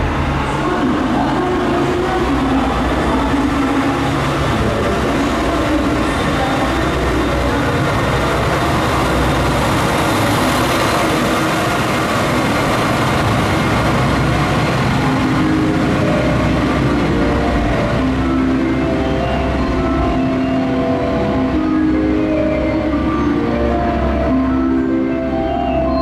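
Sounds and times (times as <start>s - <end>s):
diesel railcar engine rumble: 0.0s - 26.0s
wheel-on-rail noise: 0.0s - 26.0s.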